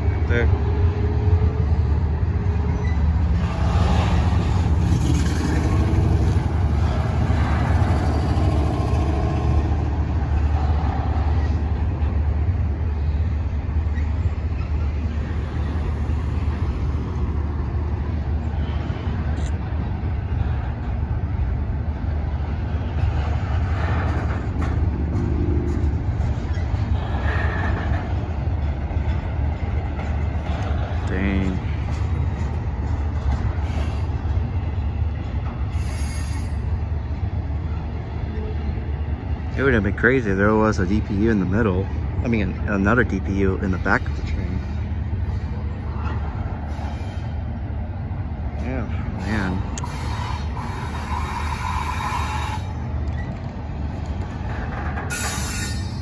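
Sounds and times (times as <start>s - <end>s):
freight train rumbling: 0.0s - 56.0s.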